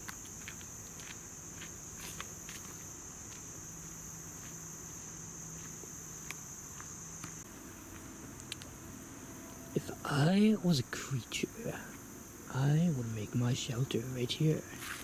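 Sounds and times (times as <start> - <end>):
insect chorus trilling: 0.0 - 15.0.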